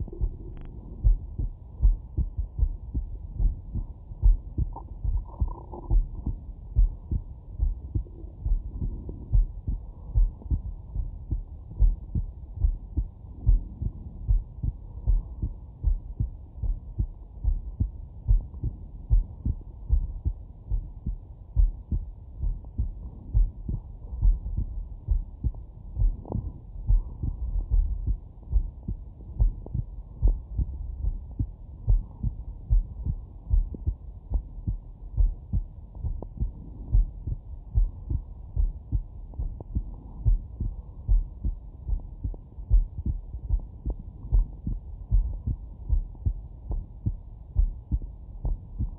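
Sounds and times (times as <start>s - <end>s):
heartbeat thumps: 0.0s - 48.9s.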